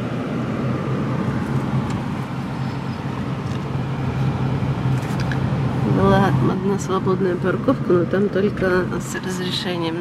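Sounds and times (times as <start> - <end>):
car engine drone: 0.0 - 10.0.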